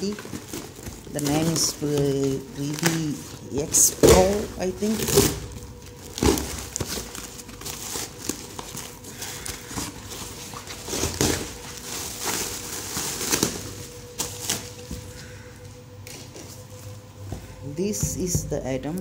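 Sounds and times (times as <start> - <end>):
plastic packing pillows crinkling: 0.0 - 19.0.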